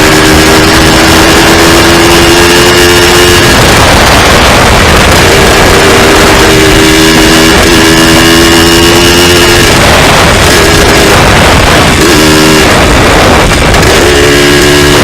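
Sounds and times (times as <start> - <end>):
loud rushing noise: 0.0 - 15.0
two-stroke dirt bike engine: 0.0 - 15.0.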